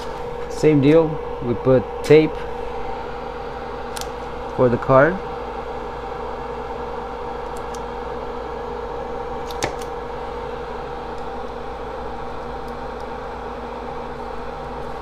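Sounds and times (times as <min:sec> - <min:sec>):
fume extractor fan humming: 0:00.0 - 0:15.0.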